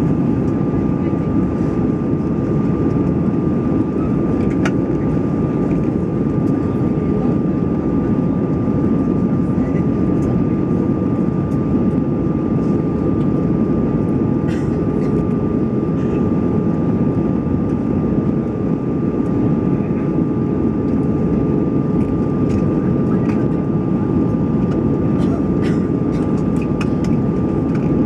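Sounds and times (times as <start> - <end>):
jet engine cabin drone: 0.0 - 28.0.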